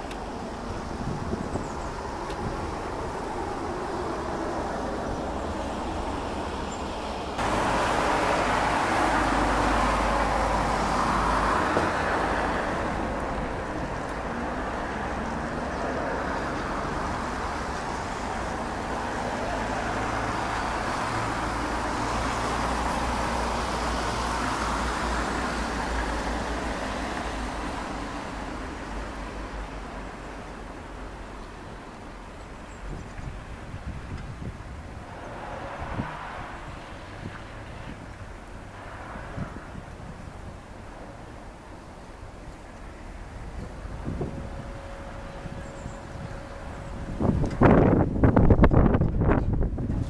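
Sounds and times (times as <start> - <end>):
distant road traffic hum: 0.0 - 50.0.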